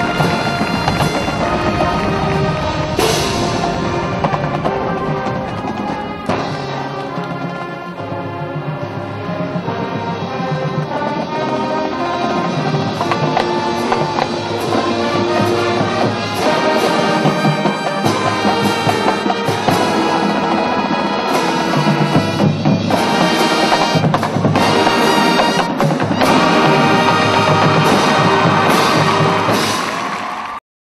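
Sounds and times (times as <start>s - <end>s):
marching band playing: 0.0s - 30.6s.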